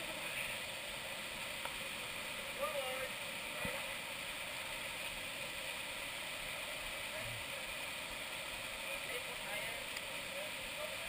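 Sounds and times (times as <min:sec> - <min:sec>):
people wading through water: 0:00.0 - 0:11.0
small waterfall rushing: 0:00.0 - 0:11.0.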